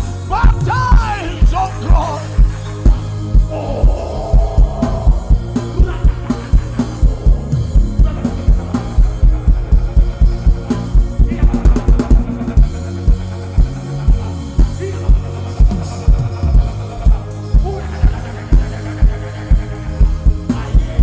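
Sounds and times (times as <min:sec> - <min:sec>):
bass line: 0:00.0 - 0:21.0
drum kit beat: 0:00.0 - 0:21.0.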